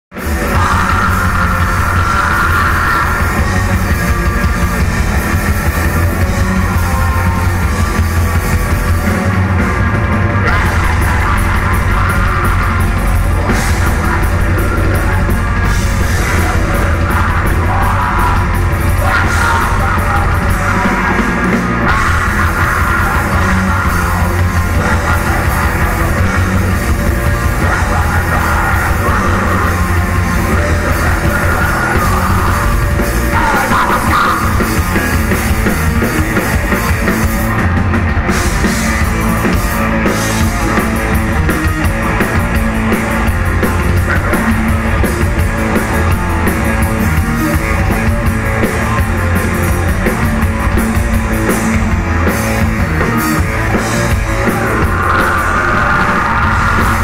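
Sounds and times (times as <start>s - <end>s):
electric guitars: 0.1s - 57.0s
harsh shouted vocals: 0.2s - 57.0s.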